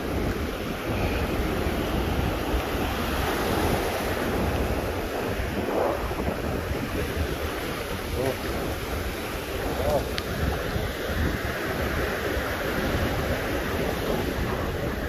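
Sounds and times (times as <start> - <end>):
foamy wash over sand: 0.0 - 15.0
ocean surf breaking: 0.0 - 15.0
wind buffeting microphone: 0.0 - 15.0.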